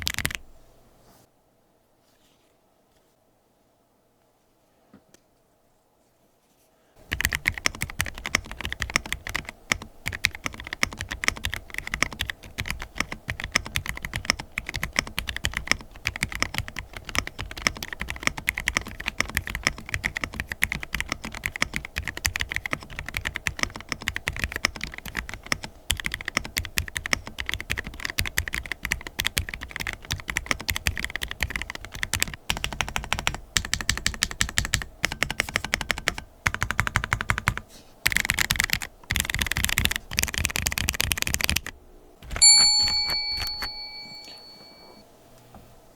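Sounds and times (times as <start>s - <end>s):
typing on a mechanical keyboard: 0.0s - 0.4s, 7.0s - 44.0s.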